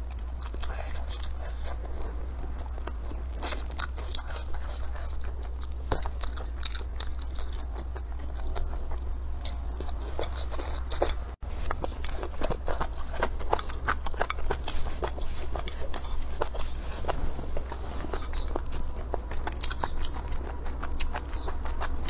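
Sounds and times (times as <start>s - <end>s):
close chewing and crunching: 0.0s - 22.0s.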